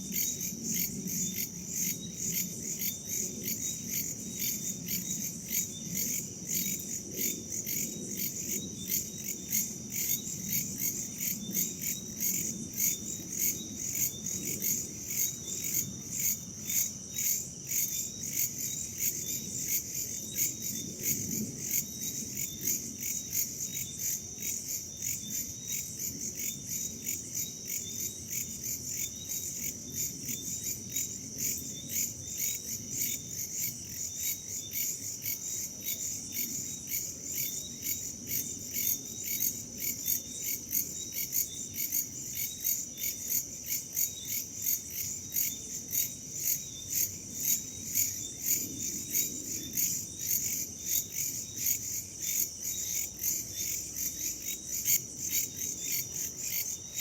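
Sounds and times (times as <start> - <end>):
crickets and insects trilling: 0.0 - 57.0.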